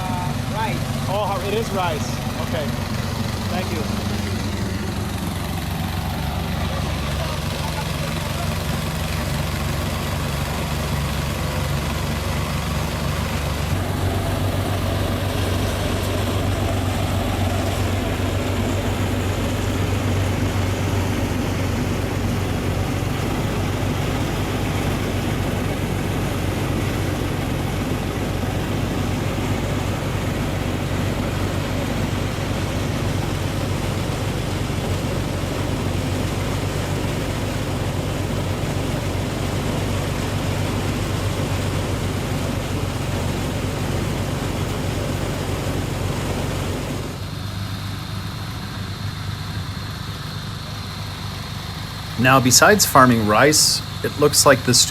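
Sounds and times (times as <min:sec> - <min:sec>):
engine hum: 0:00.0 - 0:54.9
rice thresher rushing noise: 0:00.0 - 0:54.9.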